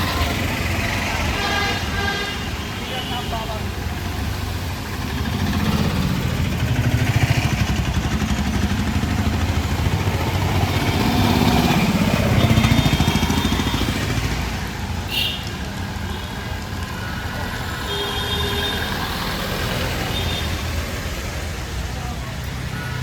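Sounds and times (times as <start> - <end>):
vehicle engines passing: 0.0 - 23.0.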